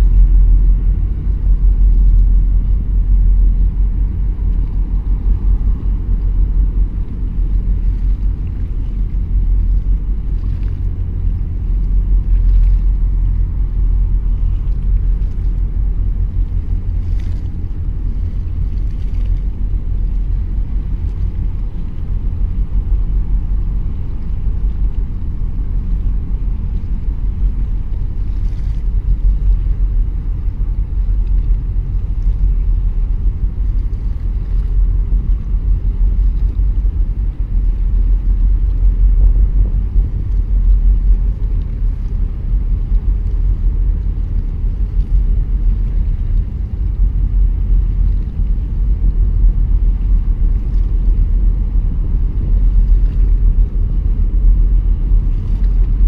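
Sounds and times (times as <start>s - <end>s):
small boat engine rumble: 0.0s - 56.0s
wind buffeting microphone: 0.0s - 56.0s.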